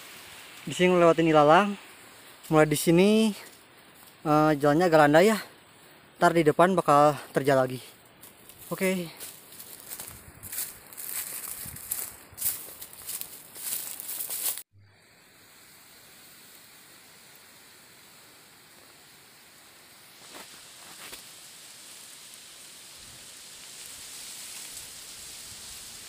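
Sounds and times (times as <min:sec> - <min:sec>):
rustling through dry grass: 0:00.0 - 0:14.7, 0:19.8 - 0:26.0
outdoor ambience hiss: 0:00.0 - 0:26.0.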